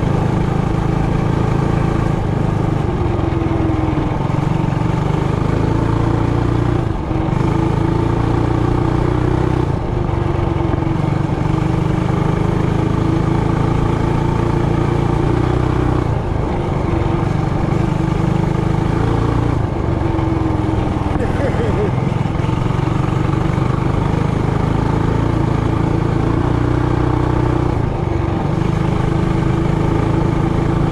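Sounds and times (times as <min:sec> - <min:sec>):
mini bike engine running: 0:00.0 - 0:30.9.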